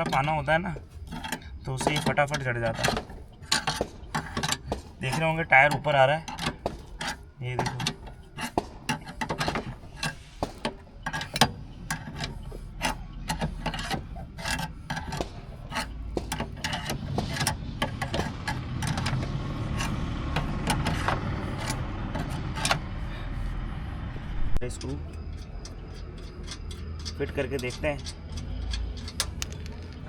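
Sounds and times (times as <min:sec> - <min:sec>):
car jack cranking: 0:00.0 - 0:30.0
metal clicks and scraping: 0:00.0 - 0:30.0.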